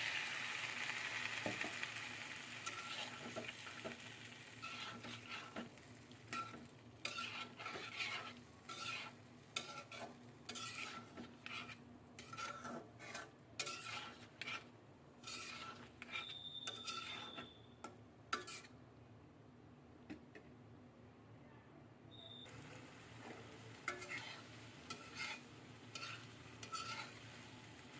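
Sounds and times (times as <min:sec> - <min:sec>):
faint sizzling: 0:00.0 - 0:18.8, 0:22.1 - 0:27.9
spatula scraping a cooking pan: 0:00.7 - 0:18.8, 0:22.5 - 0:27.9.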